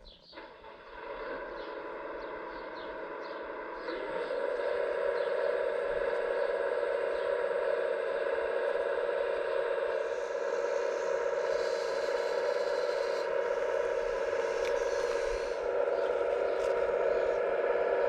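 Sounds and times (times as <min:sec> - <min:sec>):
hydraulic pump whining: 0:00.3 - 0:18.0.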